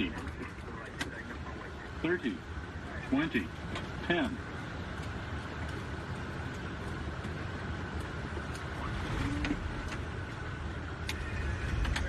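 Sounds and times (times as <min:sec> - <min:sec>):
cockpit low rumble: 0:00.0 - 0:12.0.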